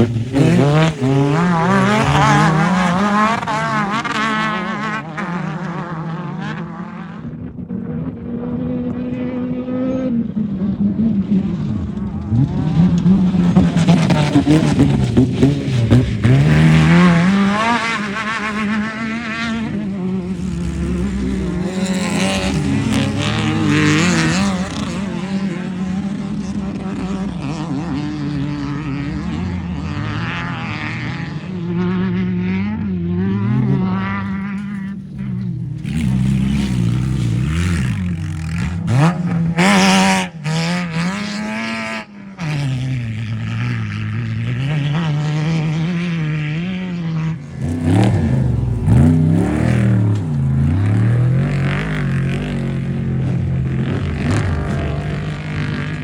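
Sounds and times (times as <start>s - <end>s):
race vehicle engines passing: 0.0s - 56.0s.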